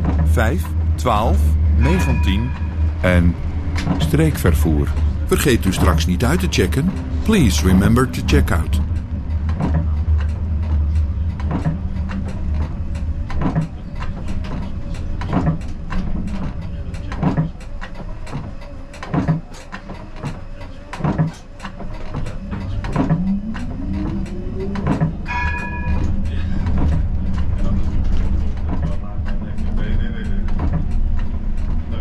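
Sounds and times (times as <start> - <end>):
tram motor whine rising: 0.0 - 19.2, 21.8 - 32.0
tram rumbling over rails: 0.0 - 32.0
wheels clicking over rail joints: 2.1 - 32.0.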